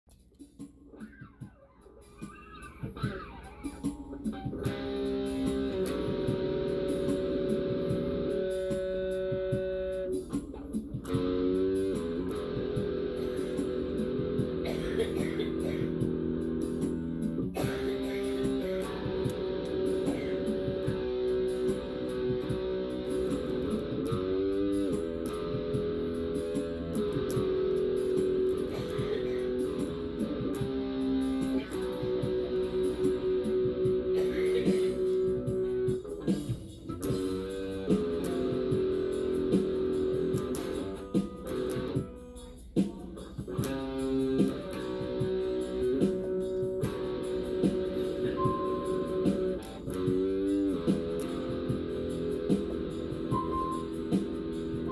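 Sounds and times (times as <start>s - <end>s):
ringing guitar notes: 1.0s - 10.4s, 11.0s - 42.4s, 43.5s - 54.9s.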